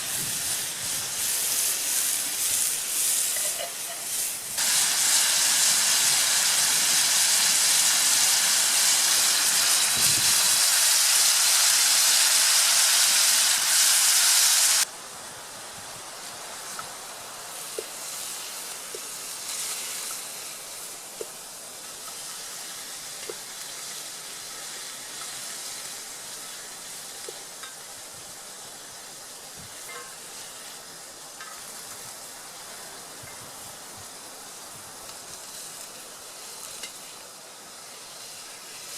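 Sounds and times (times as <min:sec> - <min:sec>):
meat sizzling in skillet: 0:00.0 - 0:38.9.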